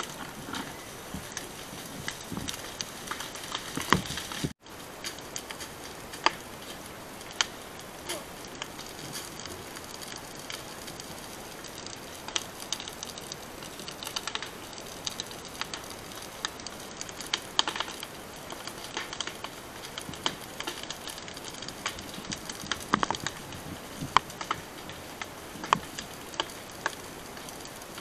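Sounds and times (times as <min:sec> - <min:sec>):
burning grass crackling: 0:00.0 - 0:28.0
fire hiss: 0:00.0 - 0:28.0.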